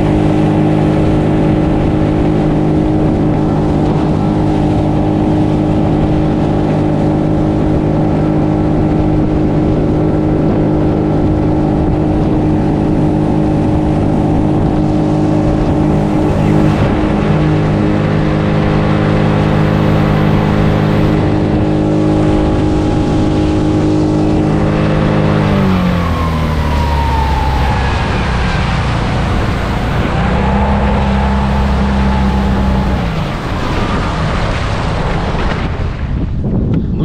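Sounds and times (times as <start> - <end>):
motor engine running: 0.0 - 35.9.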